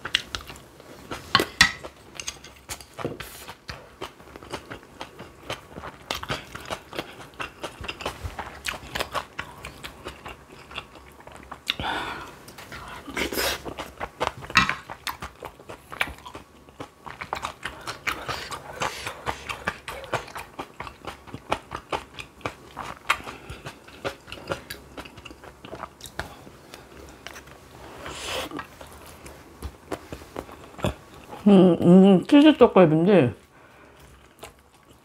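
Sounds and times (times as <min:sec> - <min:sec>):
wet chewing and biting: 0:00.0 - 0:11.8, 0:12.4 - 0:31.4.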